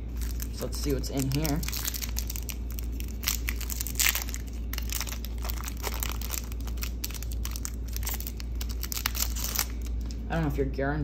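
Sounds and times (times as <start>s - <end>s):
foil wrapper crinkling and tearing: 0.0s - 10.2s
low steady hum: 0.0s - 11.0s.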